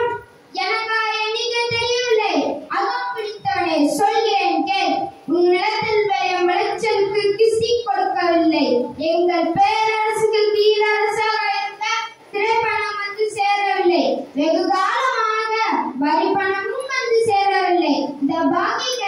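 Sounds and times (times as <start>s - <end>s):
child singing into a microphone: 0.0s - 19.0s.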